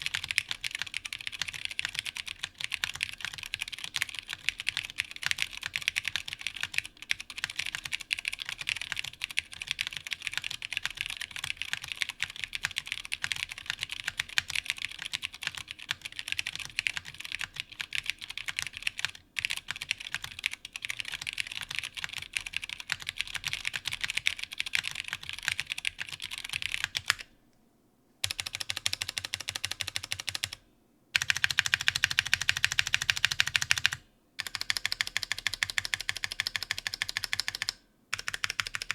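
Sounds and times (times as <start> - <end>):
mechanical keyboard typing: 0.0 - 27.3, 28.2 - 30.6, 31.2 - 38.9.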